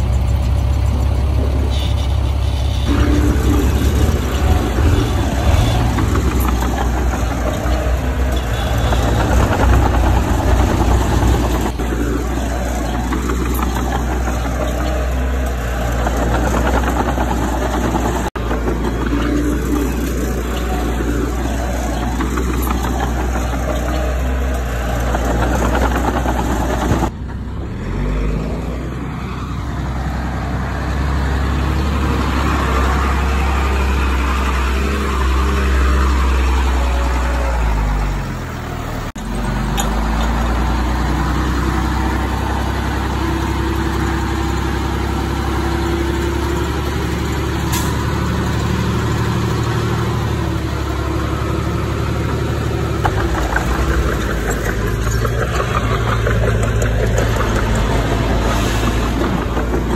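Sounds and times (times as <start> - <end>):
diesel engine of heavy machinery: 0.0 - 59.9.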